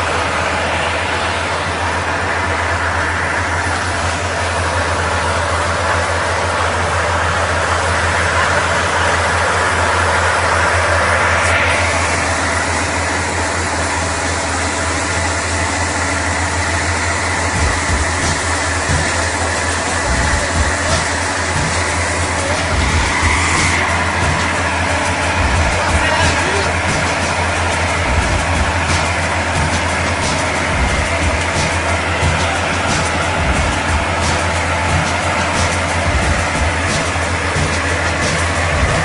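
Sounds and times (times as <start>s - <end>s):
vehicle engine droning: 0.0s - 39.0s.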